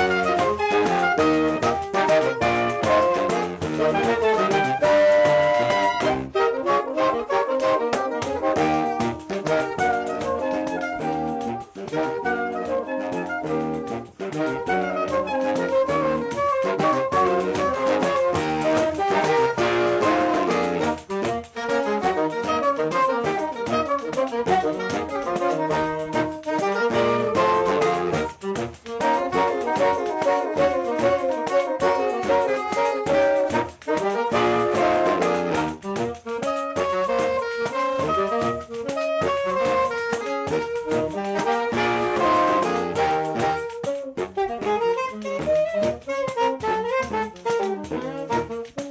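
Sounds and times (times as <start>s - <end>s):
hand percussion quick beat: 0.0s - 48.9s
saxophones playing in harmony: 0.0s - 48.9s.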